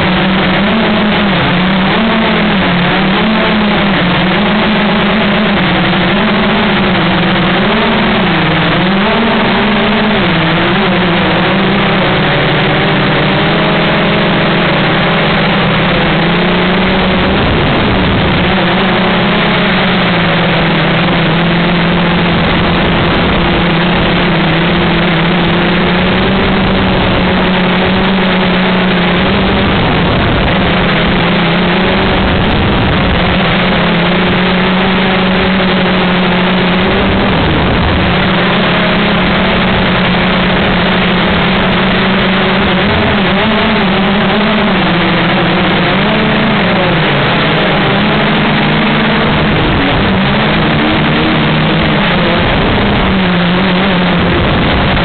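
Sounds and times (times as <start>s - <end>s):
small aircraft engine drone: 0.0s - 55.0s.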